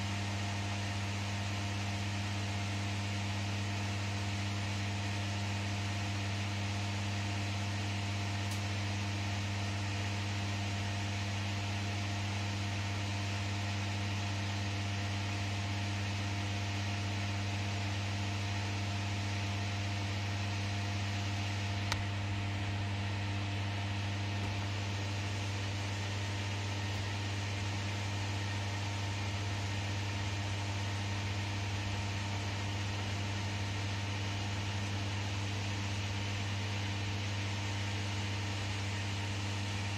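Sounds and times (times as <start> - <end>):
air conditioning fan hiss: 0.0 - 39.9
electrical hum: 0.0 - 39.9.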